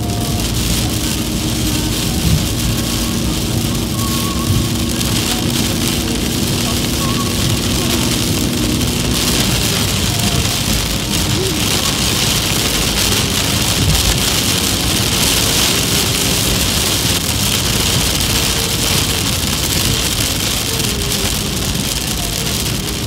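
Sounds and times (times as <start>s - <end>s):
heavy rain on car roof: 0.0s - 23.0s
tyre noise on wet road: 0.0s - 23.0s.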